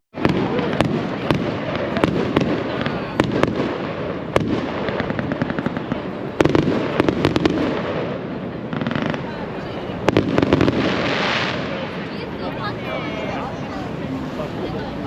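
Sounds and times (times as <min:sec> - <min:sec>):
fireworks bangs and crackle: 0:00.1 - 0:15.0.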